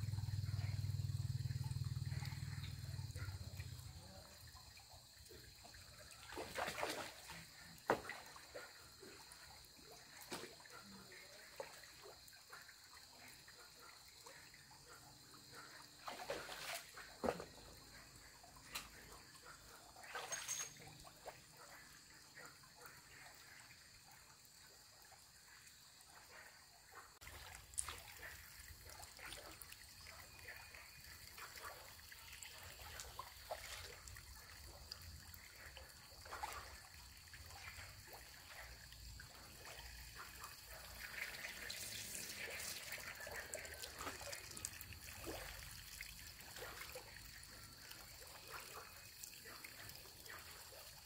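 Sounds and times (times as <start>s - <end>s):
water splashing and trickling: 0.0s - 51.0s.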